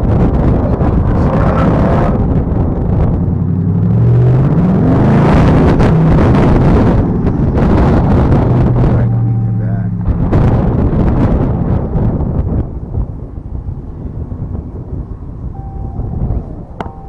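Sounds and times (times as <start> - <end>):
road and wind noise: 0.0 - 17.0
car engine accelerating: 0.1 - 17.0.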